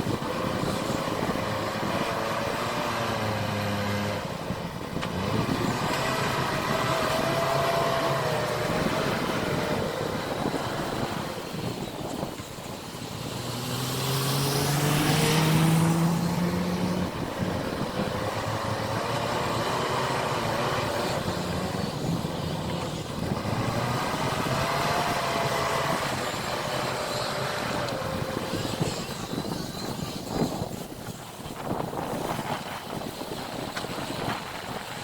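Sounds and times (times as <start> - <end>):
diesel engine working under load: 0.0 - 35.0.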